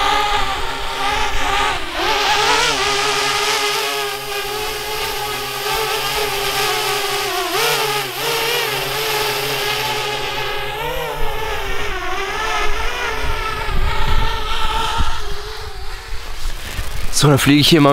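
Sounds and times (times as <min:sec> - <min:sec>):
quadcopter propellers whirring: 0:00.0 - 0:17.9.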